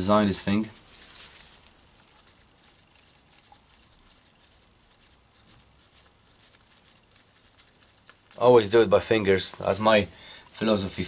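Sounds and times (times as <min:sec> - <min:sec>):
gloved fingers ticking and rustling: 0:00.5 - 0:09.7.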